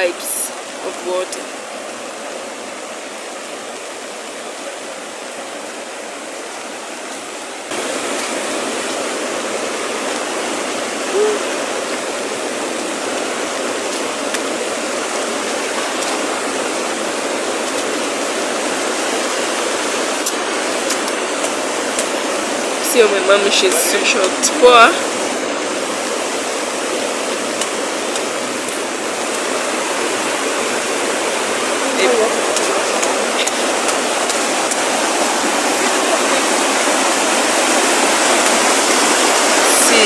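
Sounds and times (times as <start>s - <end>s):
rushing floodwater of a river: 0.0s - 40.0s.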